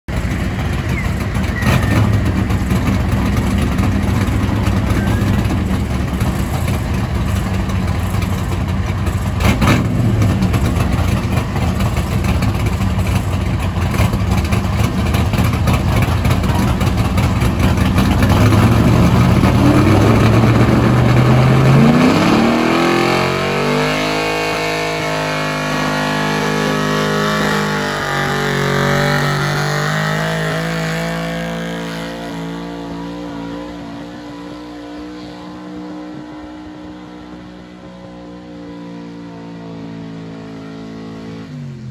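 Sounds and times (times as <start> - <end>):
pulling truck engine revving: 0.1 - 41.9.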